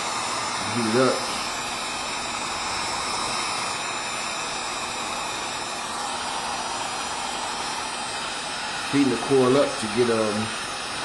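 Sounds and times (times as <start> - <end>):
heat gun blowing hot air: 0.0 - 11.0.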